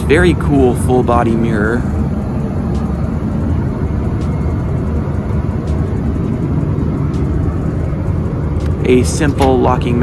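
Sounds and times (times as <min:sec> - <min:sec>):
aircraft cabin low rumble: 0:00.0 - 0:10.0.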